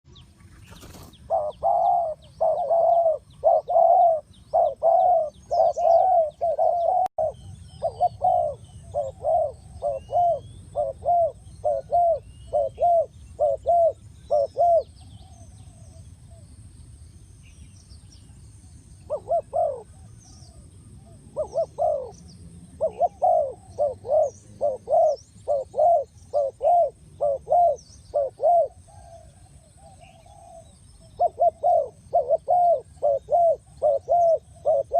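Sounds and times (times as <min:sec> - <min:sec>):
small birds chirping: 0:00.1 - 0:34.9
dove cooing: 0:00.7 - 0:16.4, 0:19.1 - 0:34.9.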